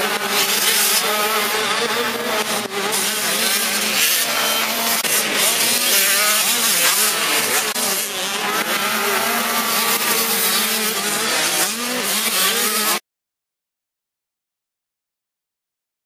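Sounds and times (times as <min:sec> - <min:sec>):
motocross bikes racing past: 0:00.0 - 0:13.0.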